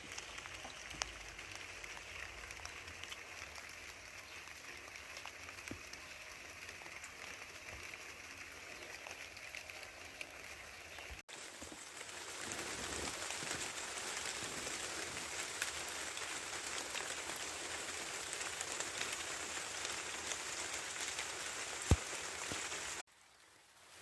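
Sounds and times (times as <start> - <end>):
rain on a hard surface: 0.0 - 24.0.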